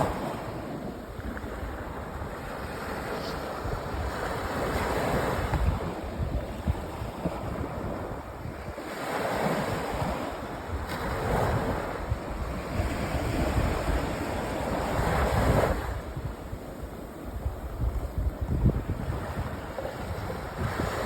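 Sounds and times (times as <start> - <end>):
waves breaking on beach: 0.0 - 21.0
wind buffeting microphone: 0.0 - 21.0.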